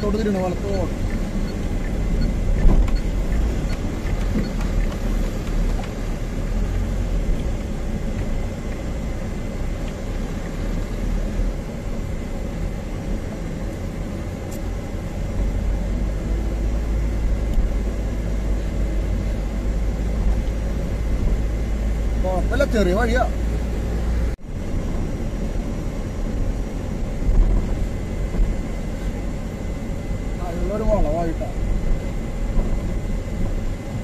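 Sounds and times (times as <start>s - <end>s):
truck engine and road rumble: 0.0s - 34.0s.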